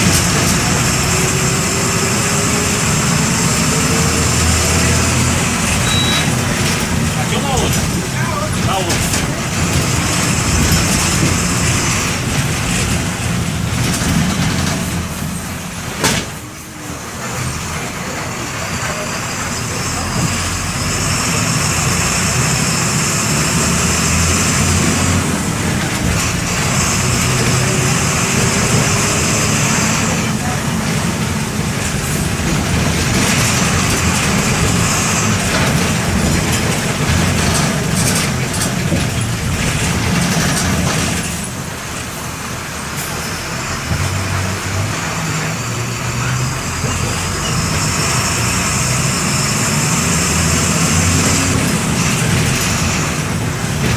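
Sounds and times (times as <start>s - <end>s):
bus engine whine: 0.0s - 53.9s.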